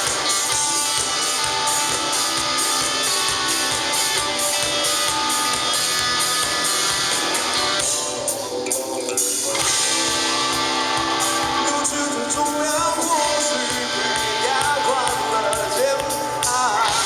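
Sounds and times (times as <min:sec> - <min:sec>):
electric guitar bending notes: 0:00.0 - 0:17.0
live rock band: 0:00.0 - 0:17.0.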